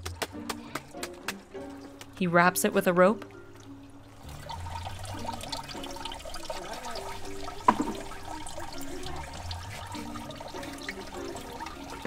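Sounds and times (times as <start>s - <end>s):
juice trickling and sloshing: 0.3s - 12.0s.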